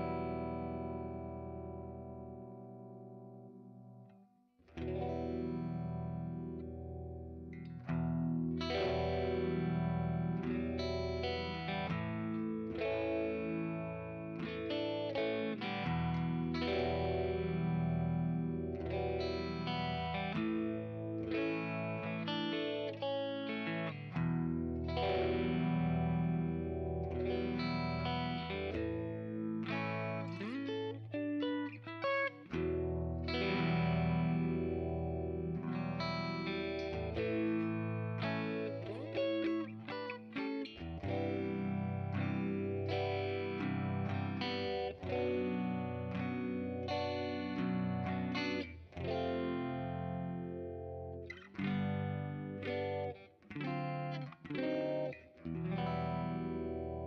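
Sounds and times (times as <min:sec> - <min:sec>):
electric guitar with effects: 0:00.0 - 0:57.0.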